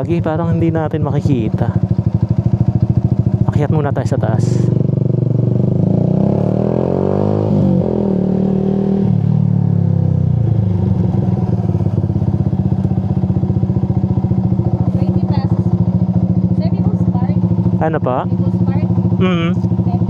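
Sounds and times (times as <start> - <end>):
motorcycle engine pulling uphill: 0.0 - 20.0.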